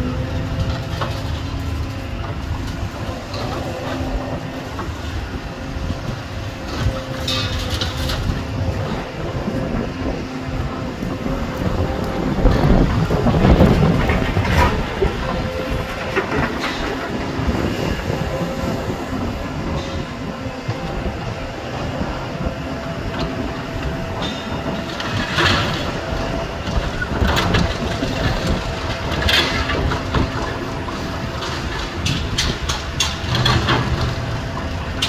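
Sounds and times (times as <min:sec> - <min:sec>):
excavator engine rumbling: 0:00.0 - 0:35.0.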